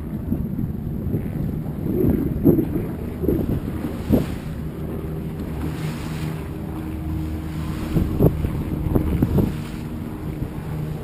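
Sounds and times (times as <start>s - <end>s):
motorboat engine running: 0.0s - 11.0s
wind rumbling on microphone: 0.0s - 11.0s.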